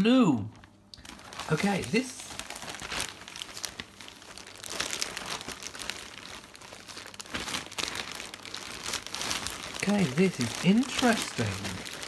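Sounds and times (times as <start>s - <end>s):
plastic bag crinkling: 0.4s - 12.0s.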